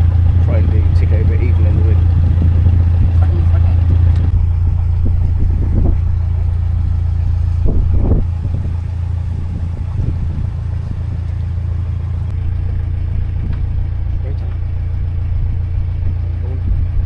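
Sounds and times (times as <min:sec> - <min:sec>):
boat diesel engine humming: 0:00.0 - 0:17.0.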